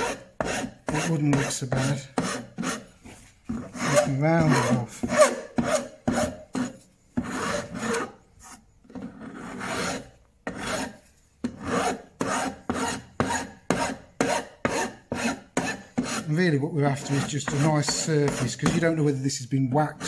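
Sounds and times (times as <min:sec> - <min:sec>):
hand file rasping on wood: 0:00.0 - 0:19.1.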